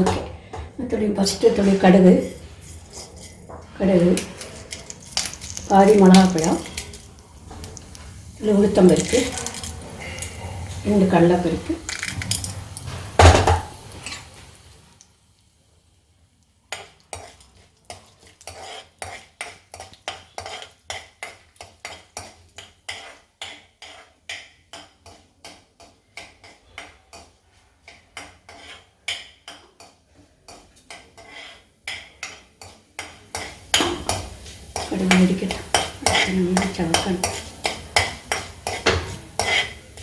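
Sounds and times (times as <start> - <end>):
faint sizzle: 0.0 - 40.0
metal spoon scraping in a pan: 1.3 - 14.7, 16.7 - 40.0.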